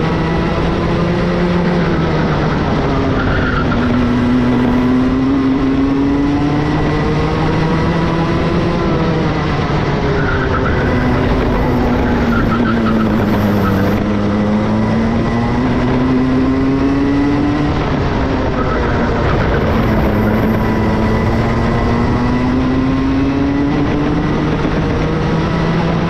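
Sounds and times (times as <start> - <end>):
two-stroke kart engine: 0.0 - 26.0
steady rushing noise: 3.8 - 16.4, 17.2 - 26.0.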